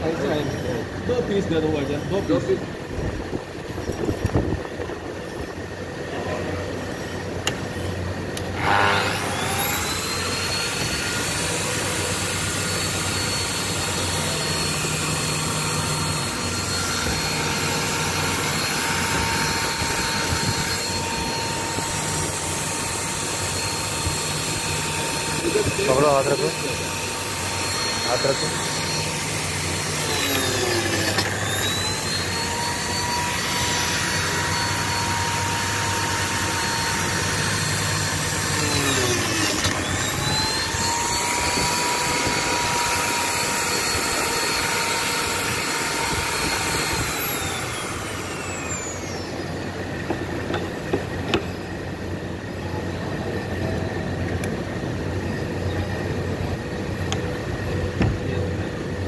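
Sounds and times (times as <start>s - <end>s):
slot-cutting machine motor whine: 0.0s - 59.0s.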